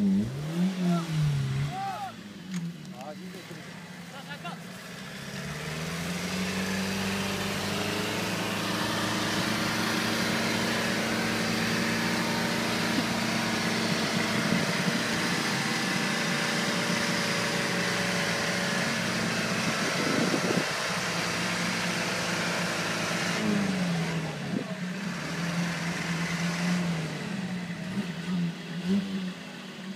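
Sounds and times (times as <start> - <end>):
off-road vehicle engine revving: 0.0 - 29.9.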